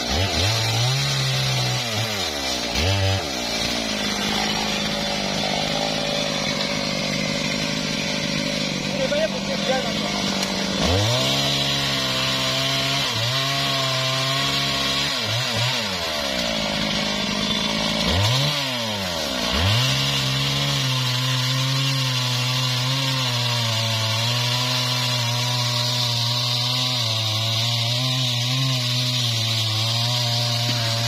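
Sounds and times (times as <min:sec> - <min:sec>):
chainsaw cutting log: 0:00.0 - 0:31.0.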